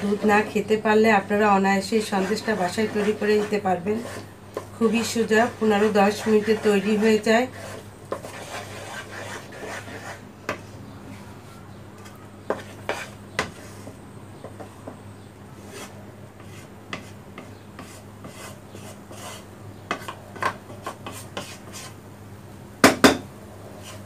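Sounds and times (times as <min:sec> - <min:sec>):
spatula scraping a wok: 0:00.0 - 0:11.2, 0:12.0 - 0:14.8, 0:15.6 - 0:22.0, 0:23.6 - 0:24.0.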